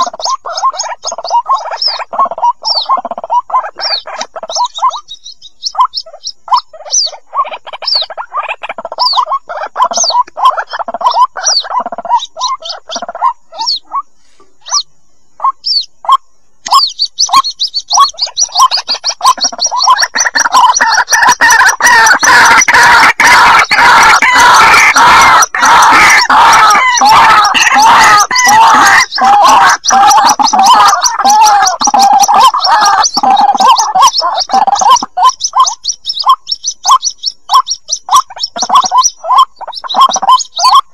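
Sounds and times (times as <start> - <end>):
chicks cheeping: 0.0 - 40.9
lower bird calls: 0.0 - 40.9.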